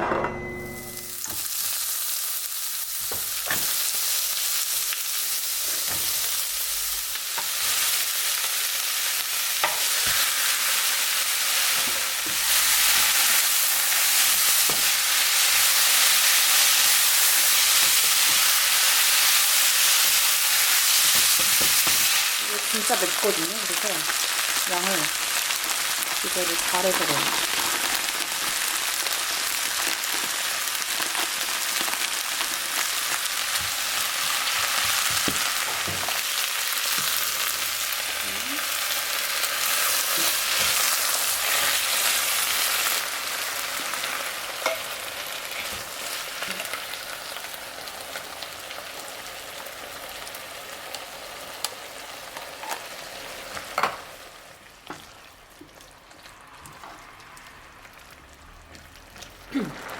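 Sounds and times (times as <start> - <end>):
curry paste sizzling in a pan: 1.1 - 59.9.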